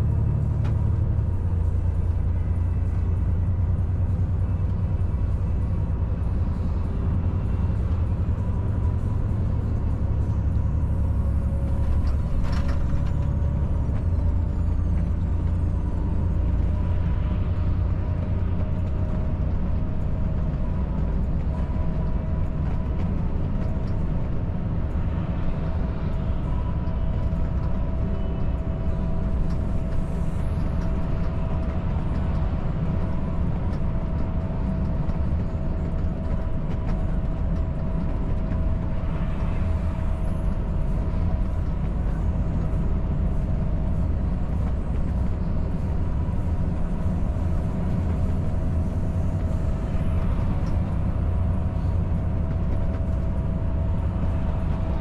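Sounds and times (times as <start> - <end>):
diesel truck engine drone: 0.0 - 55.0
tyre and road noise: 0.0 - 55.0.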